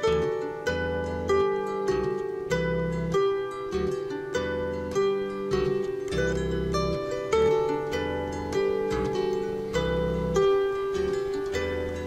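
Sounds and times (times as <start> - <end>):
harp playing: 0.0 - 12.0.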